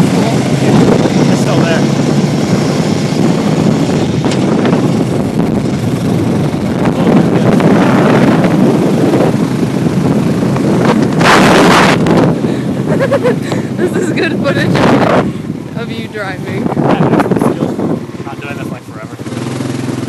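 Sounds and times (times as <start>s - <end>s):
atv engine running: 0.0s - 20.0s
wind buffeting microphone: 0.0s - 20.0s.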